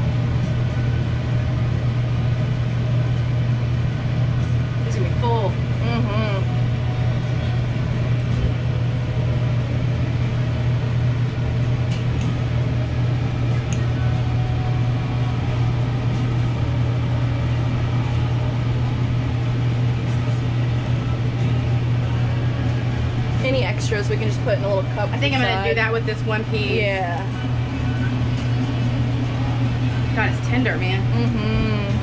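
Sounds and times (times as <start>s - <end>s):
kitchen machinery humming: 0.0s - 32.0s.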